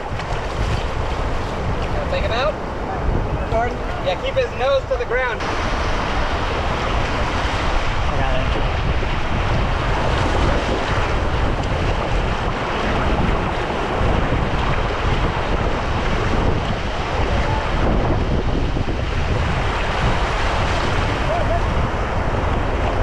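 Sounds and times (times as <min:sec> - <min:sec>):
surf washing onto beach: 0:00.0 - 0:23.0
wind buffeting microphone: 0:00.0 - 0:23.0.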